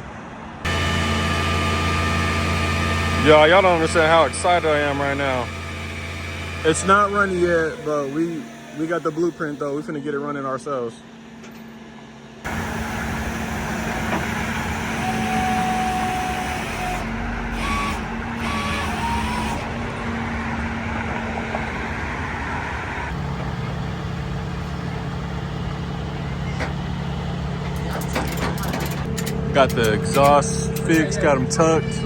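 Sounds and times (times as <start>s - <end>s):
truck engine running: 0.3s - 32.0s.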